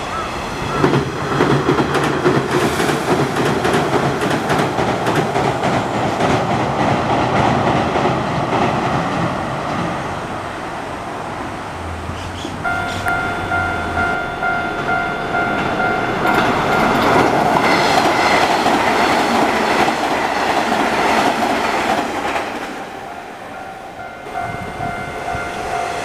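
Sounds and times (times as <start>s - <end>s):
electric train crossing steel bridge: 0.0s - 26.0s.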